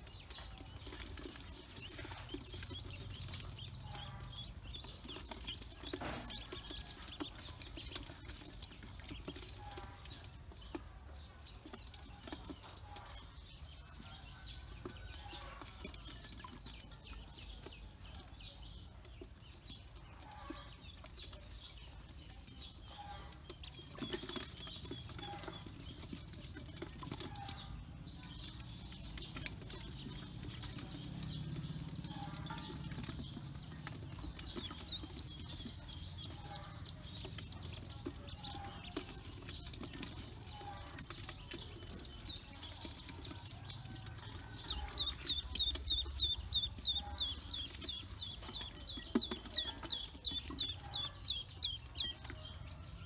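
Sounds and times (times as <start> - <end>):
ducklings peeping: 0.0 - 53.0.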